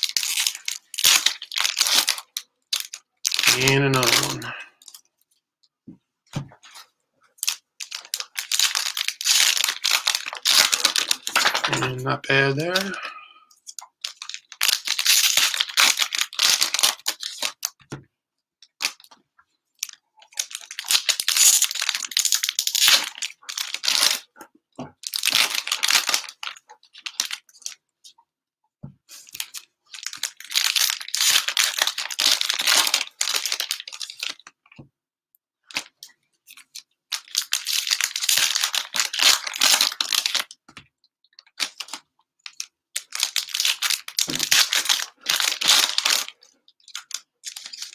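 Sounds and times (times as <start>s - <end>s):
cellophane wrappers tearing and crinkling: 0.0s - 5.0s, 7.4s - 13.0s, 13.7s - 17.8s, 19.8s - 24.4s, 25.0s - 27.8s, 29.2s - 34.5s, 35.7s - 40.6s, 41.4s - 47.9s.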